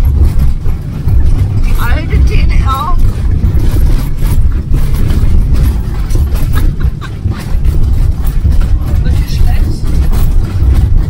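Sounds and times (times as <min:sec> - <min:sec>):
interior rattling and knocking: 0:00.0 - 0:11.0
low road rumble: 0:00.0 - 0:11.0.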